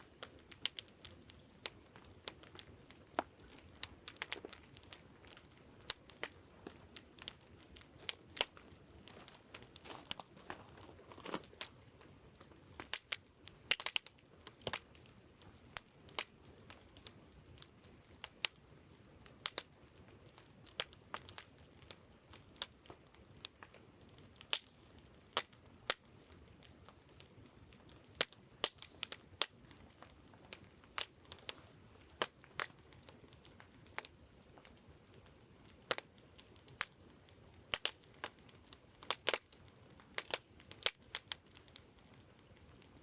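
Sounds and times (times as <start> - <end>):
campfire crackling and popping: 0.0 - 43.0
faint steady background hiss: 0.0 - 43.0.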